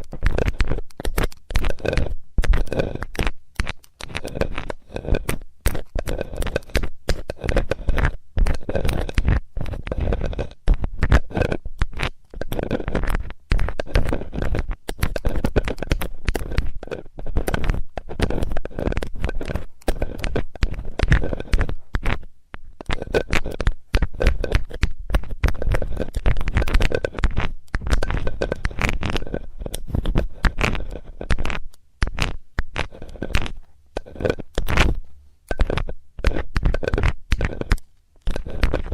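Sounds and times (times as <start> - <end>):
metal tool scraping in ear: 0.0 - 38.9.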